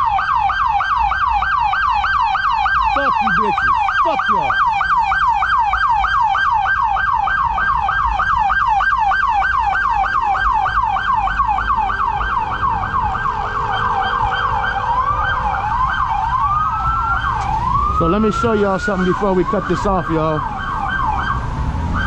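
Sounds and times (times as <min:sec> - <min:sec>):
police siren yelp and wail: 0:00.0 - 0:22.0.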